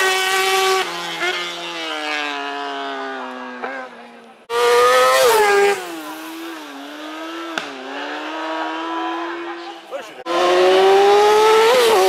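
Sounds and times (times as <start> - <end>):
racing motorcycle engine passing: 0.0 - 12.0.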